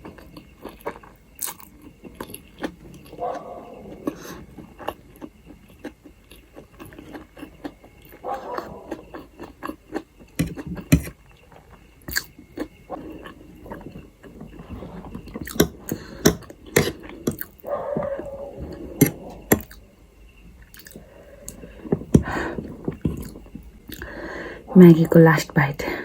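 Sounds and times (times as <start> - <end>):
chewing noodles: 0.0 - 19.8, 20.6 - 24.6.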